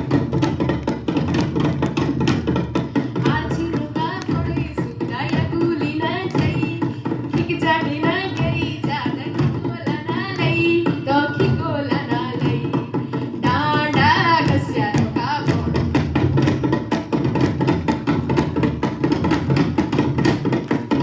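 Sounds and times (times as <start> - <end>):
drums playing fast rhythm: 0.0 - 21.0.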